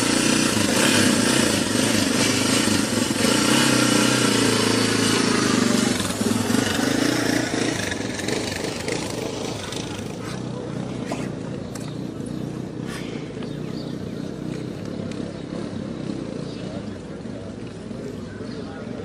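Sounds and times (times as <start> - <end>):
motor engine running: 0.0 - 19.0.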